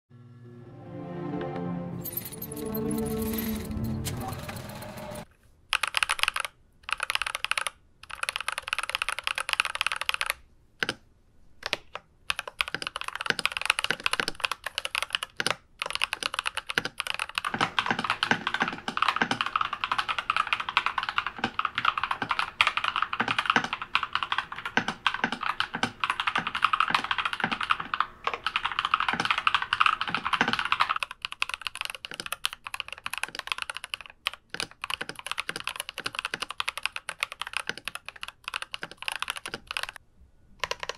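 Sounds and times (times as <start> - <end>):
mechanical keyboard typing: 5.7 - 11.0, 11.6 - 40.0, 40.6 - 40.9.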